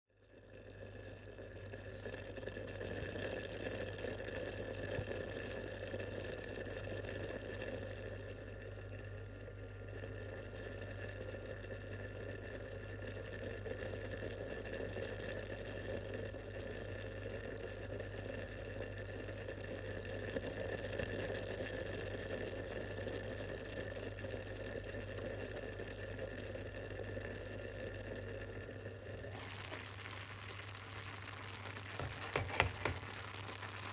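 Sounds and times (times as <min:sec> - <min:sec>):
liquid boiling in a pot: 0:00.1 - 0:33.9.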